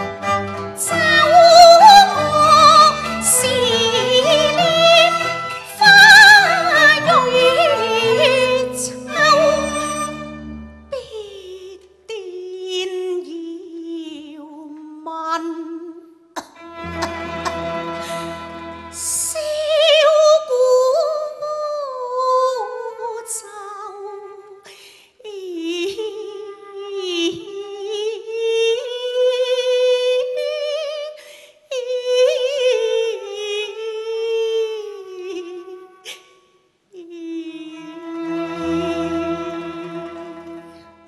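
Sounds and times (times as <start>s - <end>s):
woman singing opera: 0.8s - 10.1s, 10.9s - 16.0s, 18.9s - 36.2s, 37.0s - 40.9s.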